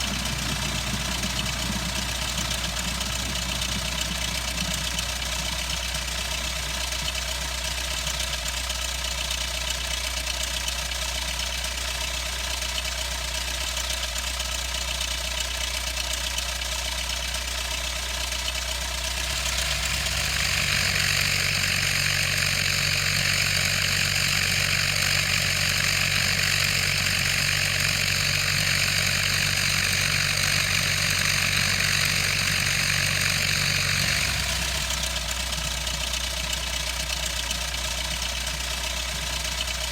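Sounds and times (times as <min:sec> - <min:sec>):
light aircraft engine and propeller: 0:00.0 - 0:10.7, 0:17.9 - 0:39.9.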